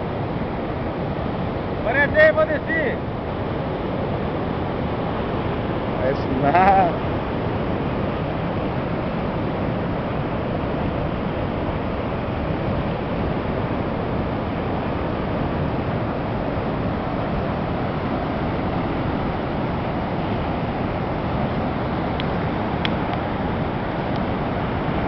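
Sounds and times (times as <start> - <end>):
waterfall rapids roaring: 0.0 - 25.0.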